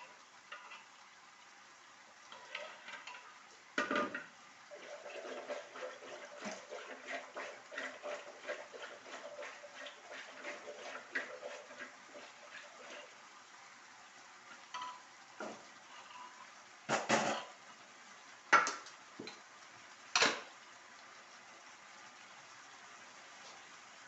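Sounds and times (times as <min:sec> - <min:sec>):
food sizzling in hot oil: 0:00.0 - 0:24.0
stirring in a pan: 0:00.0 - 0:24.0.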